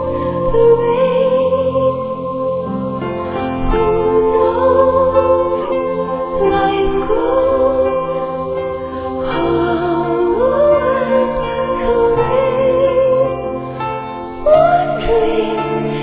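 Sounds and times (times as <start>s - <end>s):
music of long held notes: 0.0s - 16.0s
person singing gliding melody: 0.0s - 16.0s.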